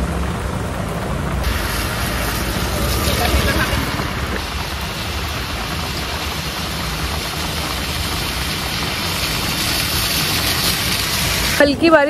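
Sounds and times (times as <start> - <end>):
low rumble: 0.0 - 10.0
heavy rain falling: 0.0 - 12.0.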